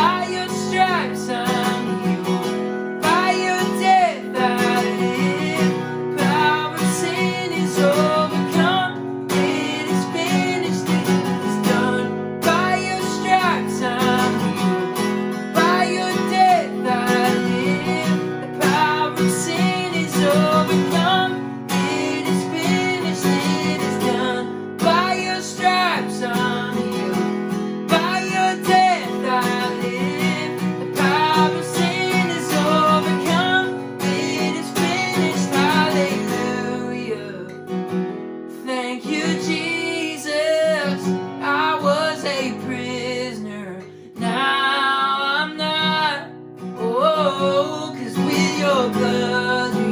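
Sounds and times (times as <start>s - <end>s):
strummed acoustic guitar: 0.0s - 49.9s.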